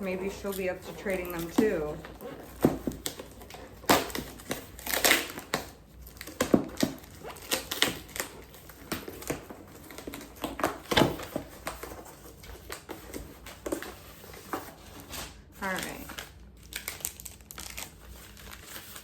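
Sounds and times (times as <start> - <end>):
packaging crinkling: 0.0 - 19.0.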